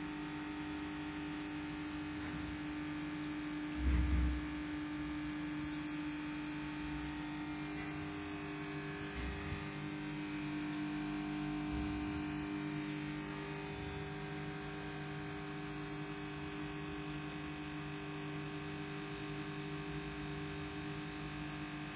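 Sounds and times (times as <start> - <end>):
aquarium equipment humming: 0.0 - 21.9.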